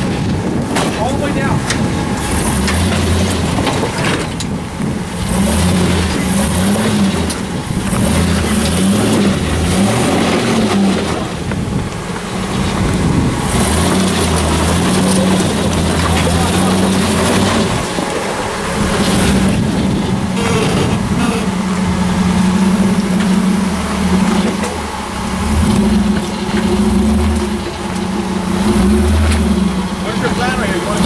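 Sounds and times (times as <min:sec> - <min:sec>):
buggy engine revving: 0:00.0 - 0:31.0.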